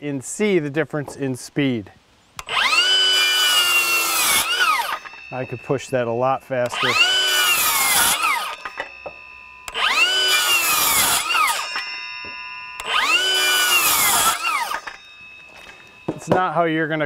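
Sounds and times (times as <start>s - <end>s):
circular saw cutting wood: 2.4s - 17.0s.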